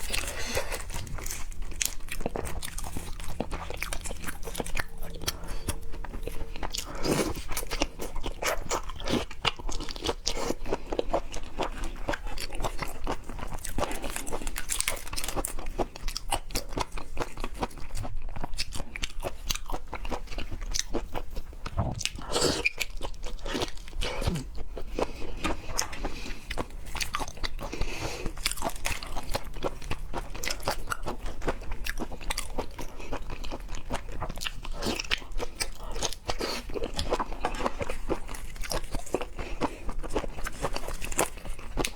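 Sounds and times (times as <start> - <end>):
biting and chewing seafood: 0.0 - 41.9.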